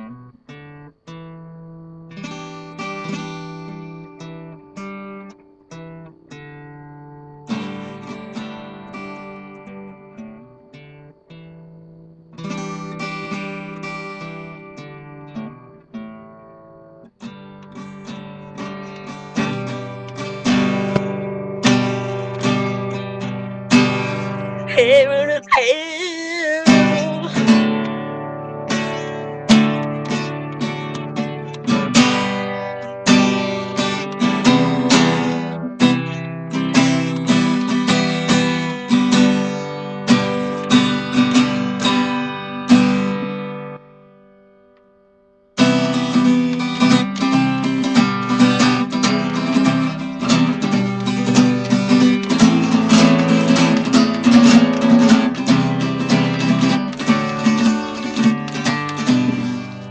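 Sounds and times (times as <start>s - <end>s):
acoustic guitar strumming: 2.2s - 44.8s, 45.6s - 59.9s.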